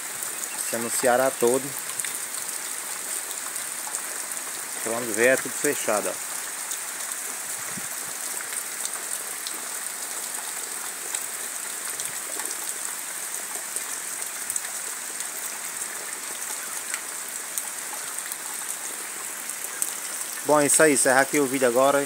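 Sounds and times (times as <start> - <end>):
heavy rain downpour: 0.0 - 22.0.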